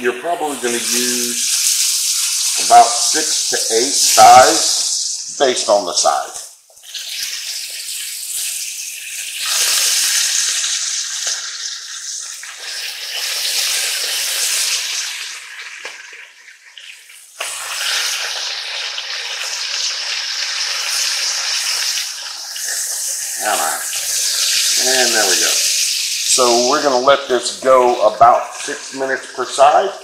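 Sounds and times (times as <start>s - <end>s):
chicken sizzling in hot oil: 0.1s - 5.4s, 6.0s - 30.0s.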